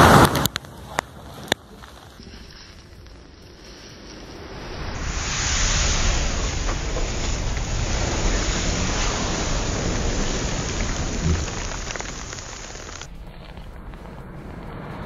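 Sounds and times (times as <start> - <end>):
crackling flames: 0.0 - 15.0
matches flaring with rushing hiss: 2.0 - 15.0.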